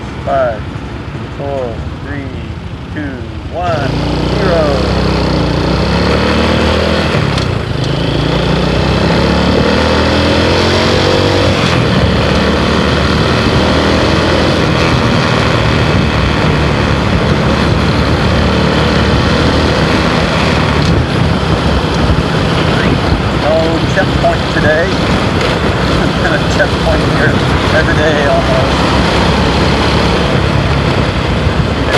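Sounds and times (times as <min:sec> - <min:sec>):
motorcycle engine accelerating: 0:03.4 - 0:31.9.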